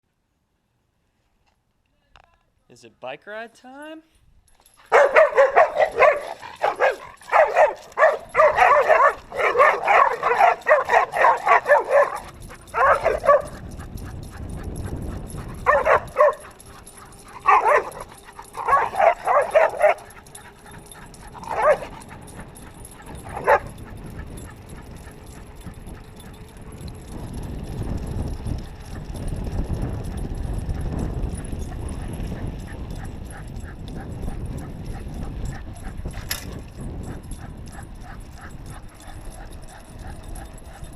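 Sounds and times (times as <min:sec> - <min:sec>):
dogs yipping and whining: 0:04.6 - 0:40.9.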